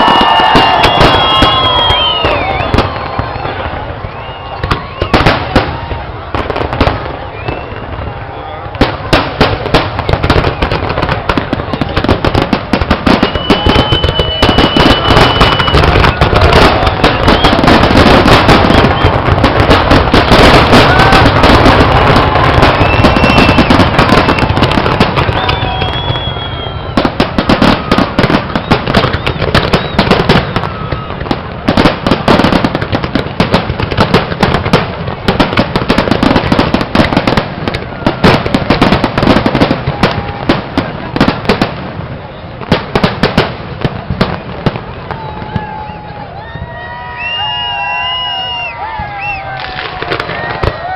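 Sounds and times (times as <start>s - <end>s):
whistling firework shells: 0.0s - 6.0s, 6.7s - 50.9s
fireworks bangs and crackling: 0.0s - 50.9s.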